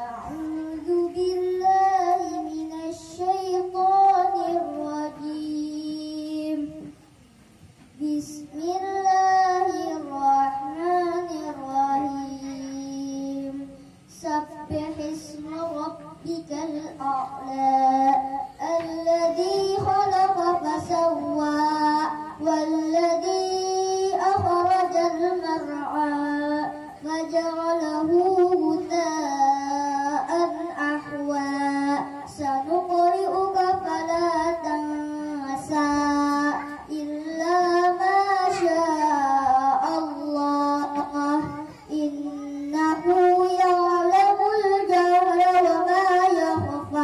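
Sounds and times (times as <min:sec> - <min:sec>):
girl reciting melodically: 0:00.0 - 0:47.0.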